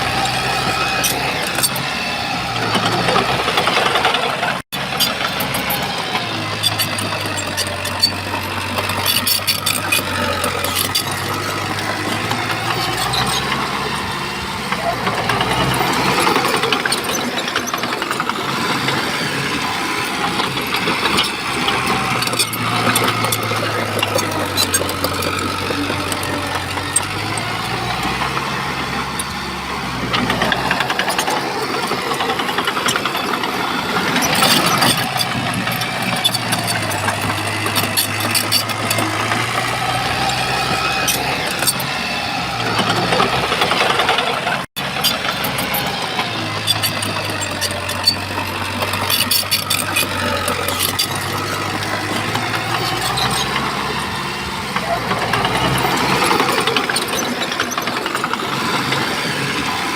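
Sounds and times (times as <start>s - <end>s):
bulldozer diesel engine under load: 0.0s - 59.9s
tracks and rocks clanking: 0.0s - 59.9s.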